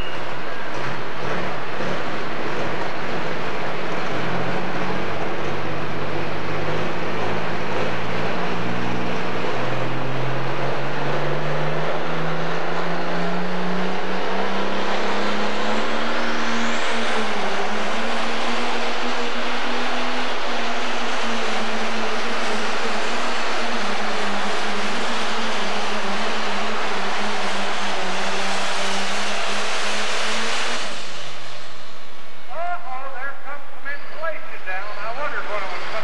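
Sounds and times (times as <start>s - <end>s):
diesel engine at heavy throttle: 0.0s - 36.0s.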